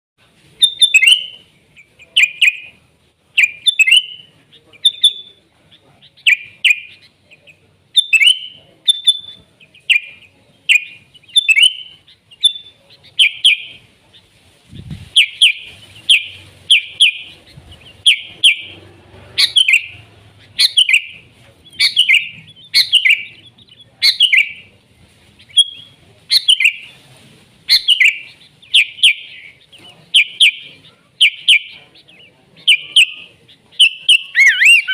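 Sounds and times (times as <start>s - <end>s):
bird chirping: 0.6s - 24.8s, 25.4s - 26.9s, 27.7s - 34.9s.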